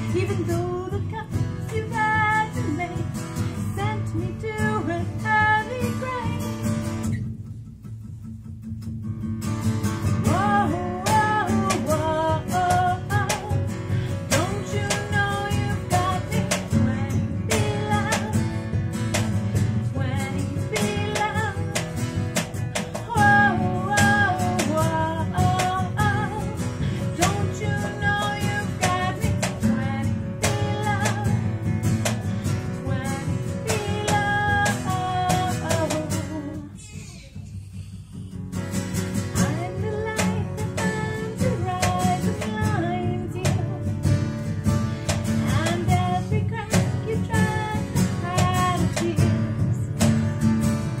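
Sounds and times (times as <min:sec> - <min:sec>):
woman singing: 0:00.0 - 0:07.2, 0:10.0 - 0:37.4, 0:39.2 - 0:51.0
acoustic guitars strummed: 0:00.0 - 0:51.0.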